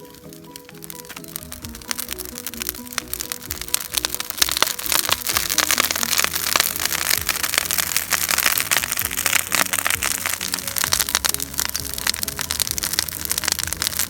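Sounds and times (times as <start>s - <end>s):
background music with simple melody: 0.0s - 14.0s
burning timber crackling and popping: 0.0s - 14.0s.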